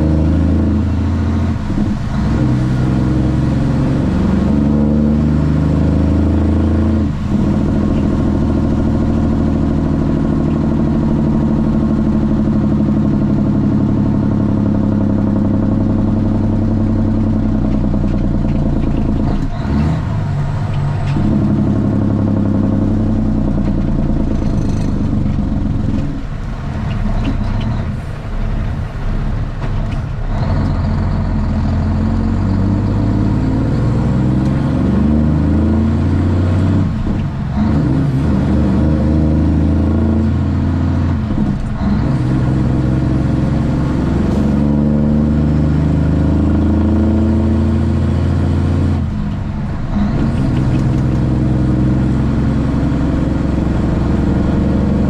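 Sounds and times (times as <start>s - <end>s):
diesel truck engine exhaust: 0.0s - 55.0s.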